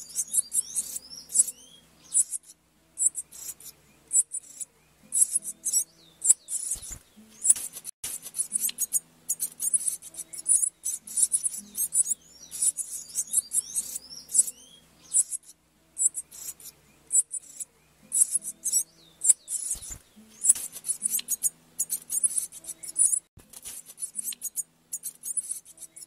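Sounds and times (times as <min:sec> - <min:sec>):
nestlings begging with high chirps: 0:00.0 - 0:26.0.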